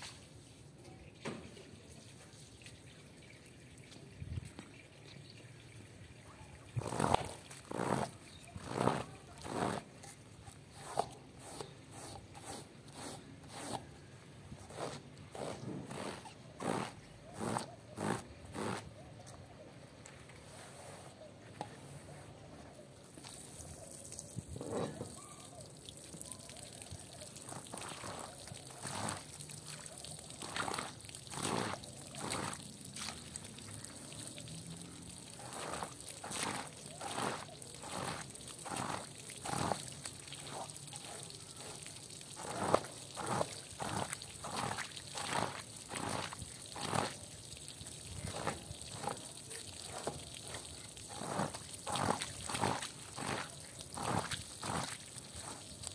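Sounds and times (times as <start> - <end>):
hose stream pouring onto rug: 6.6 - 19.0, 23.0 - 55.9
squeegee squishing water from rug: 6.6 - 19.0, 22.9 - 55.9.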